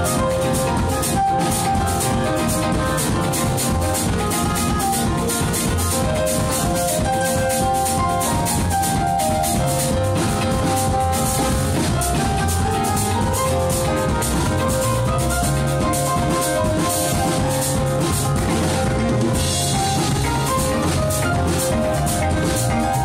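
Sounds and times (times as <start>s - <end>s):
electric guitar: 0.0s - 23.0s
keyboard chords: 0.0s - 23.0s
upright double bass: 0.0s - 23.0s.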